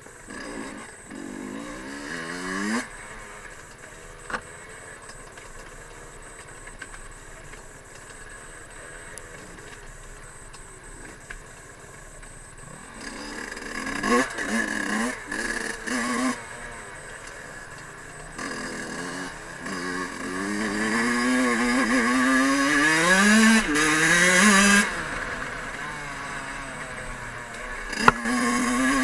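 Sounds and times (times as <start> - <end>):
two-stroke dirt bike engine revving: 0.0 - 29.0.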